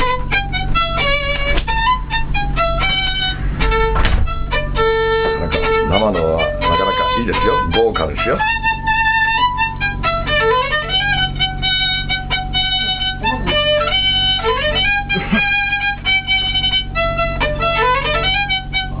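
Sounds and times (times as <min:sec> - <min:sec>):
steady low hum: 0:00.0 - 0:19.0
violin melody: 0:00.0 - 0:19.0.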